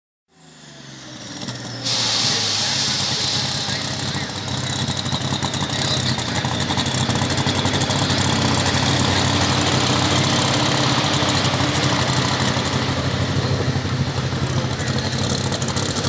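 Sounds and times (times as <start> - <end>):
diesel tractor engine running: 0.3 - 16.0.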